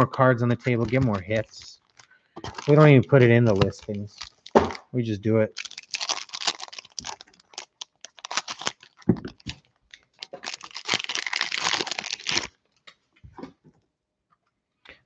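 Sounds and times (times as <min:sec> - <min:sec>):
cellophane wrapper crinkling: 0:00.5 - 0:12.8.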